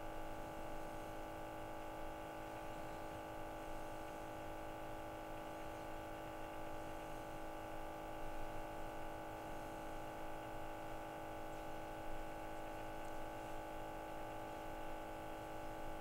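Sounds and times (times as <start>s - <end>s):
sampling pump hum: 0.0s - 16.0s.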